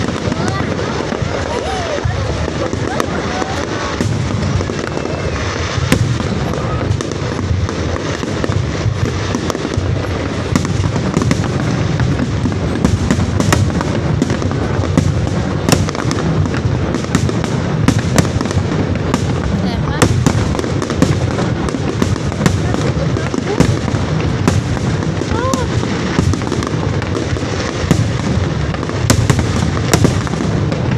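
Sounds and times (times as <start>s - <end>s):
distant fireworks rumble: 0.0s - 30.9s
fireworks sharp cracks: 0.0s - 30.9s.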